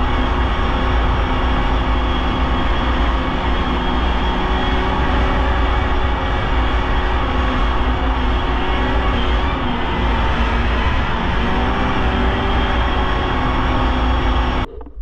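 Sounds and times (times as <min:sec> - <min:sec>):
snowmobile engine running: 0:00.0 - 0:14.7.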